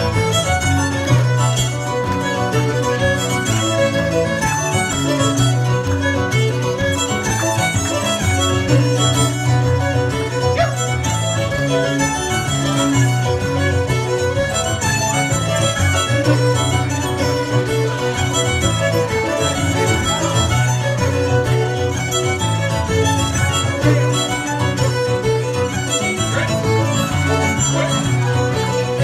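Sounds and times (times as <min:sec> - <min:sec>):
fiddle melody: 0:00.0 - 0:29.0
keyboard low bass: 0:00.0 - 0:29.0.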